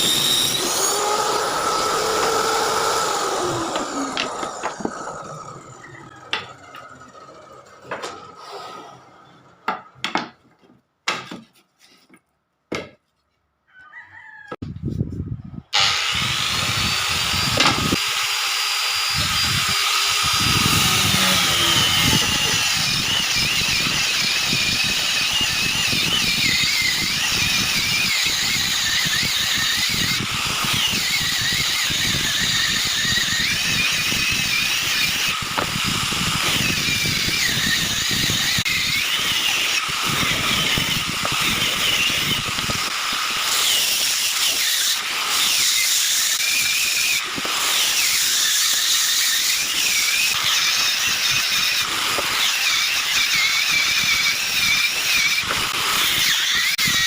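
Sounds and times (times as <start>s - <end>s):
power tool cutting wood: 0.0s - 10.0s, 15.7s - 57.0s.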